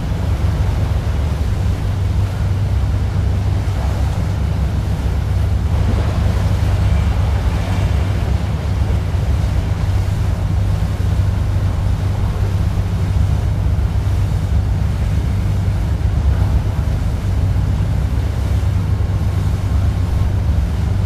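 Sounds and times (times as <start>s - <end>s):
boat engine droning: 0.0s - 21.0s
rushing water: 0.0s - 21.0s
wind: 0.0s - 21.0s.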